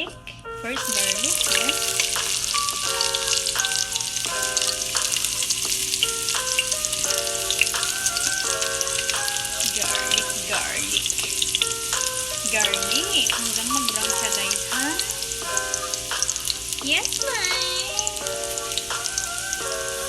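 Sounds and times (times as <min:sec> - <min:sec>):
instrumental melody: 0:00.0 - 0:20.0
garlic sizzling in oil: 0:00.7 - 0:20.0.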